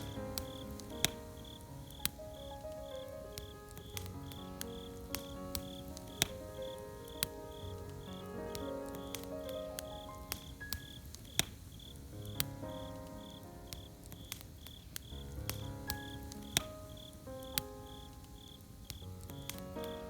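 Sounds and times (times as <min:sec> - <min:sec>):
campfire crackling and popping: 0:00.0 - 0:20.0
crickets chirping: 0:00.0 - 0:20.0
soft music of held notes: 0:00.0 - 0:20.0.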